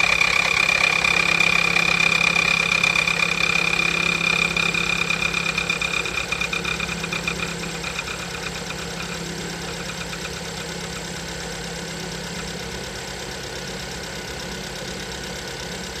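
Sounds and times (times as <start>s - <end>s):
car engine idling with ticking: 0.0s - 16.0s.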